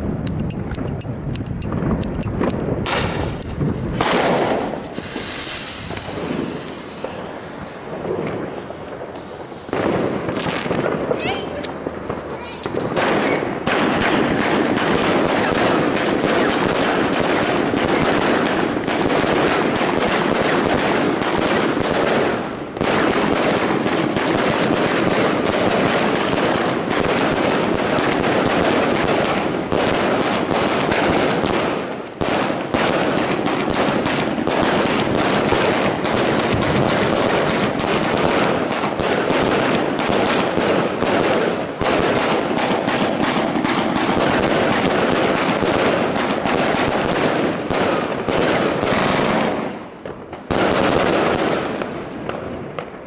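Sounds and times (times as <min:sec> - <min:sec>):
firework cake firing rapid shots: 0:00.0 - 0:53.0.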